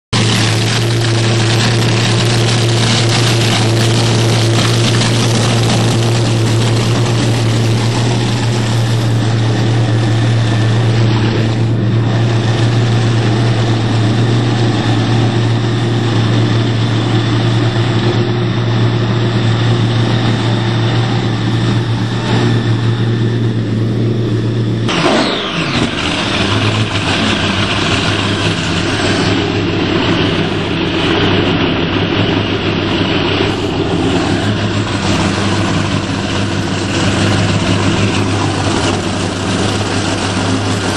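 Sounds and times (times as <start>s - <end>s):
boat engines idling: 0.1s - 40.9s.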